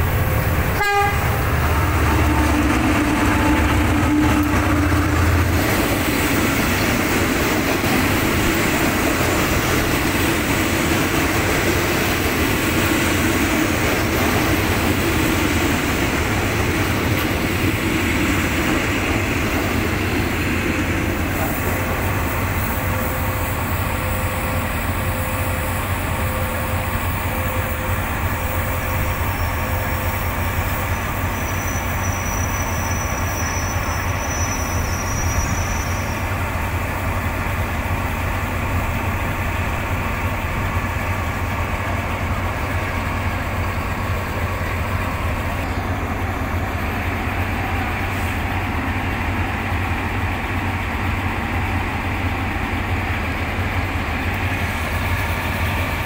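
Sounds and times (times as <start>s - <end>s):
diesel locomotive idling: 0.0s - 56.0s
train coaches rumbling and rattling: 0.0s - 56.0s.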